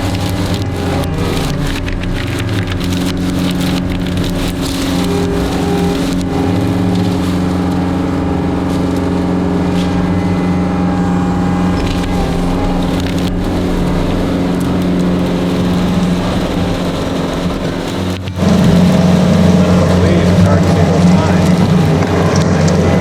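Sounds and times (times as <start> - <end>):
diesel engine running: 0.0 - 23.0
faint clicks: 0.0 - 23.0.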